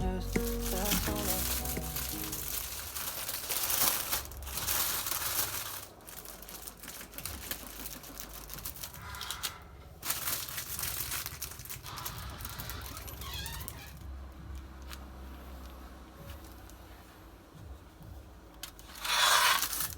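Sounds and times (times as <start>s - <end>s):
packaging crinkling and rustling: 0.0s - 15.1s, 18.6s - 19.9s.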